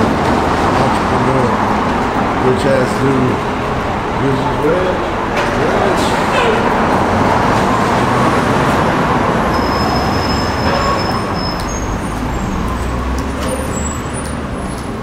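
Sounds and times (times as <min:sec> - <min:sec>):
traffic rumble in underpass: 0:00.0 - 0:15.0.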